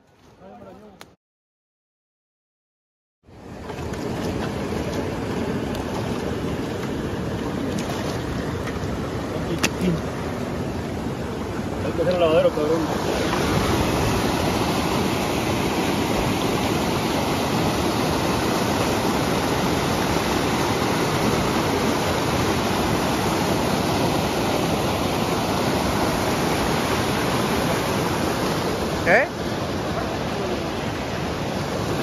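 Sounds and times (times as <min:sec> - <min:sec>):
river water rushing over rocks: 0:03.4 - 0:32.0.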